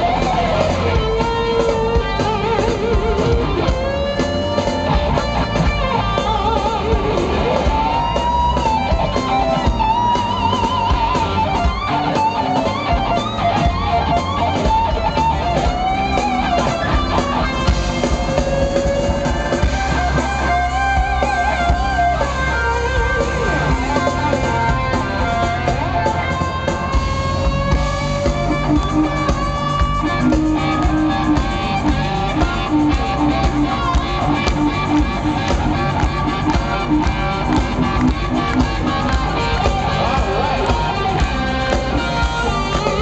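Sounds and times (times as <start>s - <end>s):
electric guitar: 0.0s - 43.0s
live rock band playing: 0.0s - 43.0s.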